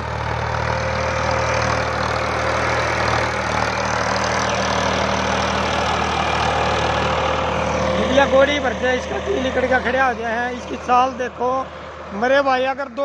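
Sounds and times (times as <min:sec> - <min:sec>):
tractor diesel engine labouring: 0:00.0 - 0:13.0.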